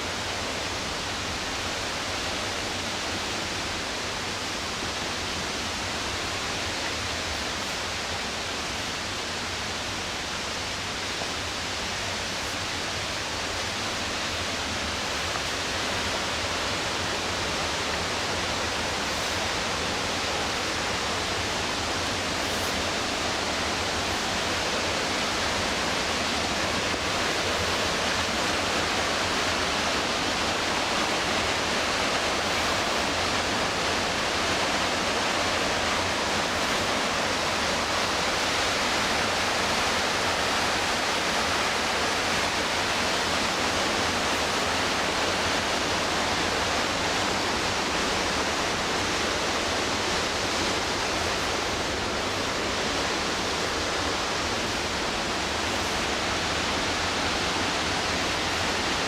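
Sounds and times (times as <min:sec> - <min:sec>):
whitewater rushing: 0:00.0 - 0:59.0.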